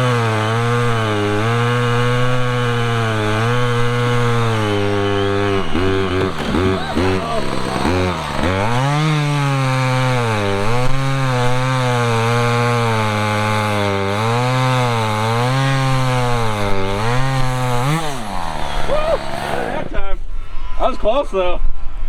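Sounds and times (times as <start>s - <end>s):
chainsaw cutting through log: 0.0s - 20.1s.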